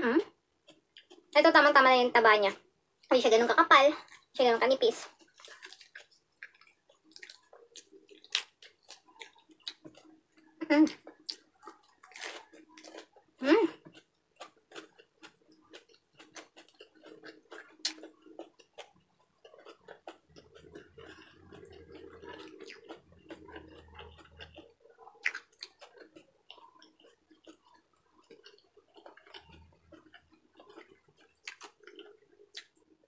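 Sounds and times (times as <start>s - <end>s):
person chewing food: 0.6s - 1.4s, 4.0s - 4.4s, 5.1s - 33.0s.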